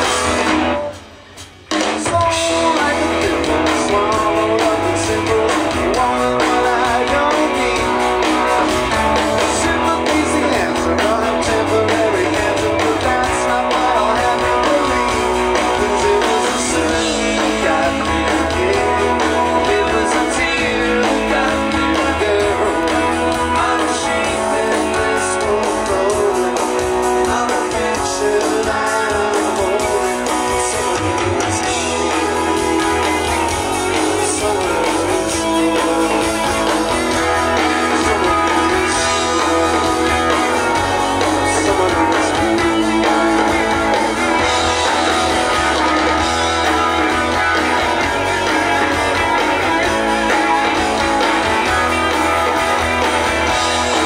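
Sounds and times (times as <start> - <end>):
live rock band playing: 0.0 - 54.0
strummed guitars: 0.0 - 54.0.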